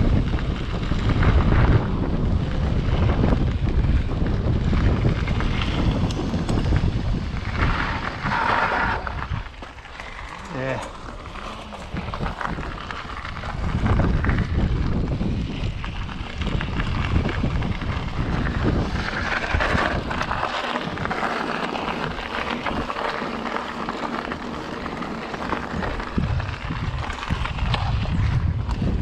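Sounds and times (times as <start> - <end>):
bike tyres rattling on rough ground: 0.0 - 29.0
wind buffeting microphone: 0.0 - 29.0.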